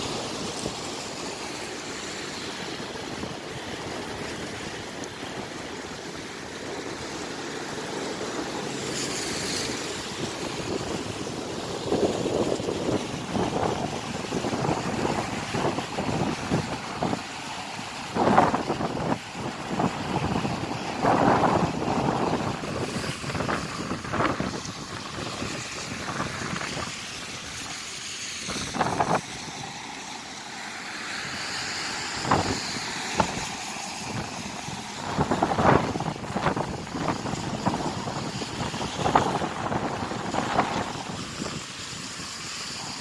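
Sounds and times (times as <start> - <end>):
river rushing: 0.0 - 43.0
road traffic passing: 0.0 - 43.0
wind buffeting microphone: 0.0 - 43.0.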